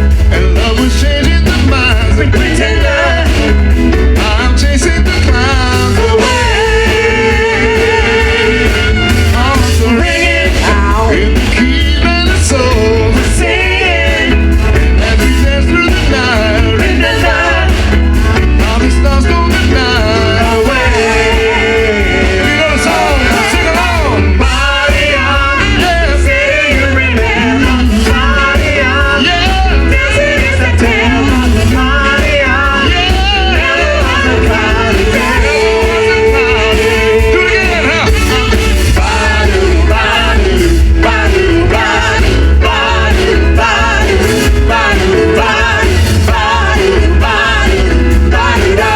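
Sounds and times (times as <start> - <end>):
electric guitar: 0.0 - 48.9
lead singer singing: 0.0 - 48.9
live band playing: 0.0 - 48.9
steady bass line: 0.0 - 48.9.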